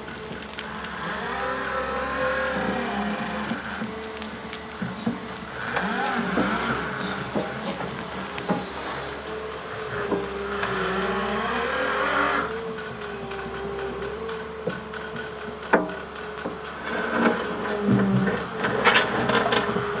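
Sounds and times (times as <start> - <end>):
clattering bursts: 0.0 - 20.0
construction machinery hum: 0.0 - 20.0.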